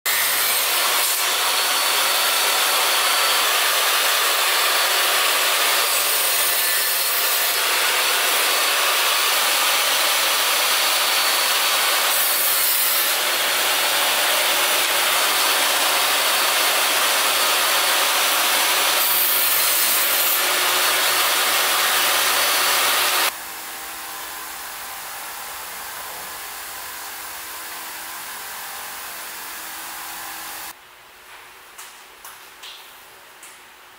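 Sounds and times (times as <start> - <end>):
table saw cutting wood: 0.1 - 30.8.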